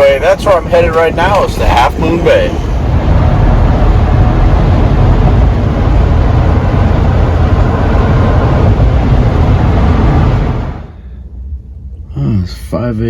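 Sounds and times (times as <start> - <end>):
van road and wind noise: 0.0 - 13.0.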